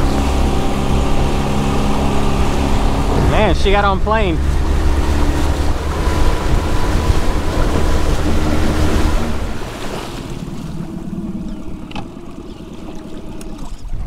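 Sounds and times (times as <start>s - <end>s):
outboard motor running: 0.0s - 14.0s
rushing water: 0.0s - 14.0s
wind: 0.0s - 14.0s.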